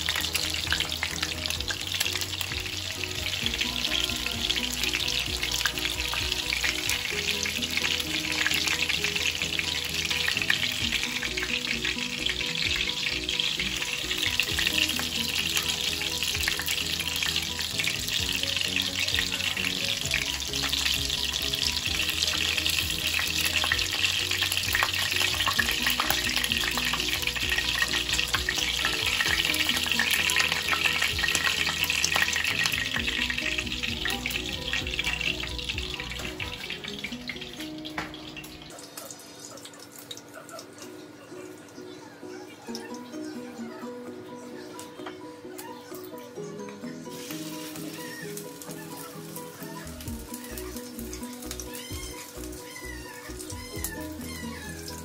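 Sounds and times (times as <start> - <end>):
burger patties sizzling in oil: 0.0 - 41.8, 46.9 - 55.0.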